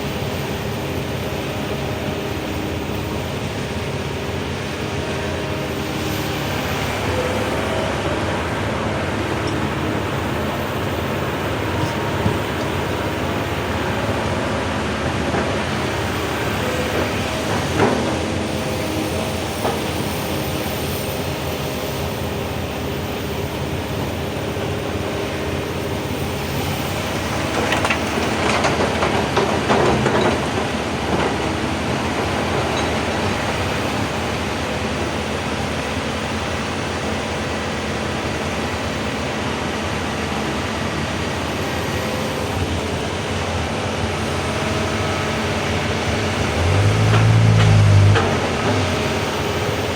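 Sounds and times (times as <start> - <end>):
excavator running: 0.0 - 49.9.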